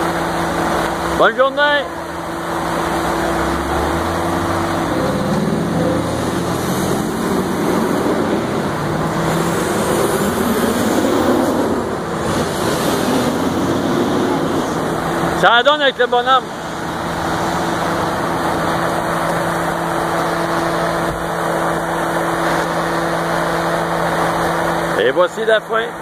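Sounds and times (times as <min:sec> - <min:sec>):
cars driving slowly past: 0:00.0 - 0:26.0.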